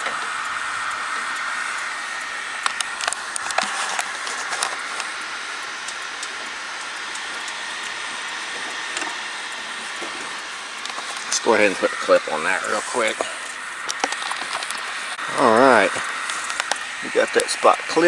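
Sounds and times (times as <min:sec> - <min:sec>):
faint steady whine: 0:00.0 - 0:18.0
steady hiss: 0:00.0 - 0:18.0.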